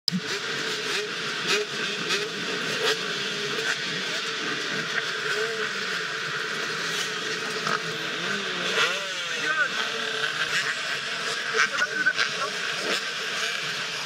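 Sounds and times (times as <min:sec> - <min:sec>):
dirt bike engines revving: 0:00.1 - 0:14.0.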